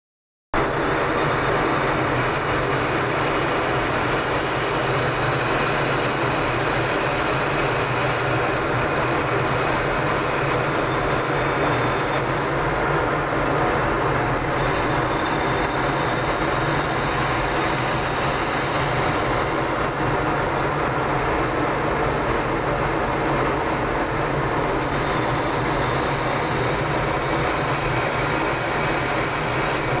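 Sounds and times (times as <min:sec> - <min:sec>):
fighter jet engines running: 0:00.6 - 0:30.0
thin high whine: 0:00.6 - 0:30.0.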